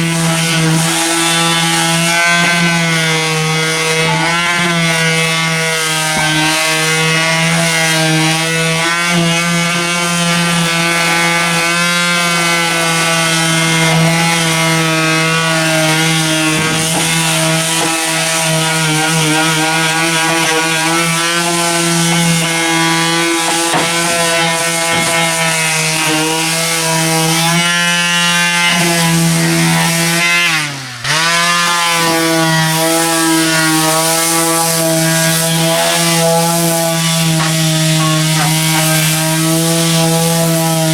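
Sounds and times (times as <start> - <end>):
electric power sander whining: 0.0 - 40.9.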